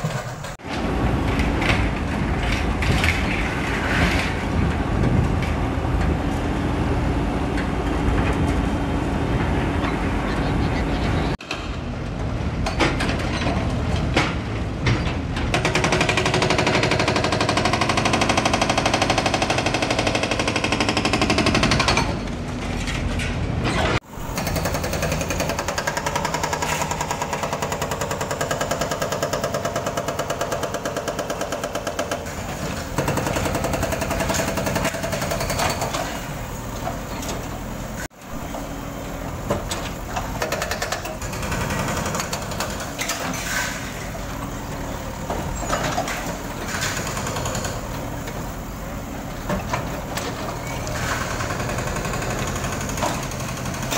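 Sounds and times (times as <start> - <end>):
diesel engines running hard: 0.0 - 53.9.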